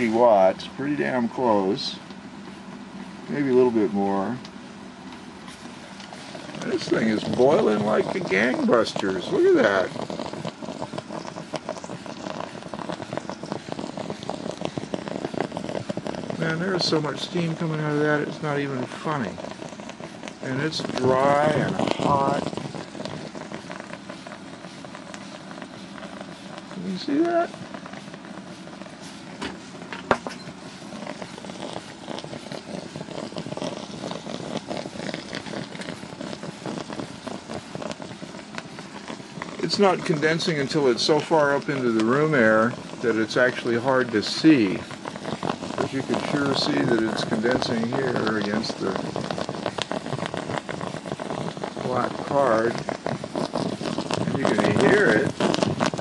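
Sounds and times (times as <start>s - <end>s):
steam escaping: 0.0s - 4.8s, 5.4s - 56.0s
water boiling with crackling pops: 0.0s - 56.0s.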